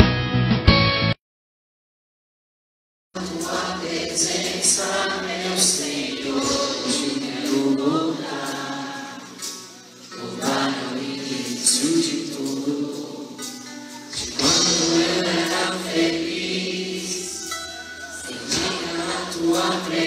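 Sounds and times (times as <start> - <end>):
choir singing a hymn: 3.2 - 20.0.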